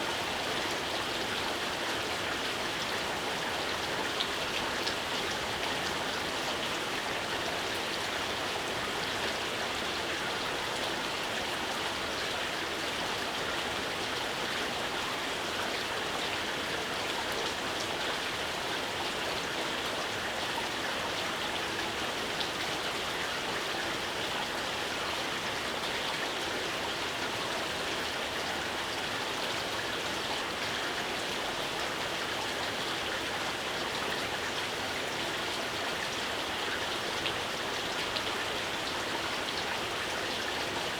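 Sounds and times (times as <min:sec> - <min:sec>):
rain falling: 0:00.1 - 0:40.9.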